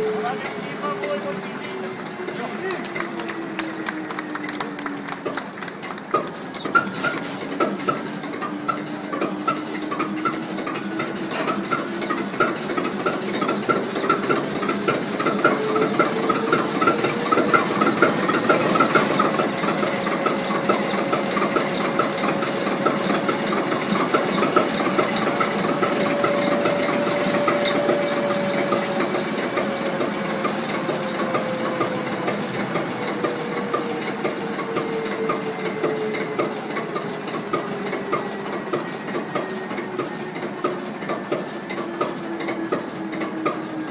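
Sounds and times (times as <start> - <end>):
large diesel engine running: 0.0 - 43.9.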